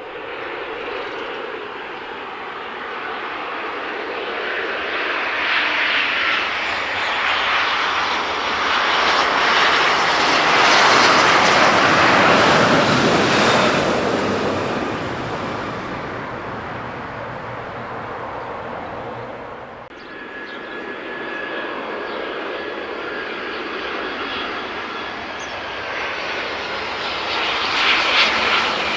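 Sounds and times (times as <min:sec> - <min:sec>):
airliner engines roaring: 0:00.0 - 0:28.9.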